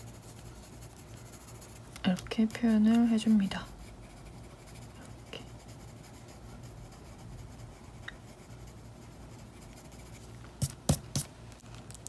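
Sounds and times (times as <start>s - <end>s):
pencil scratching on paper: 0.0s - 11.3s.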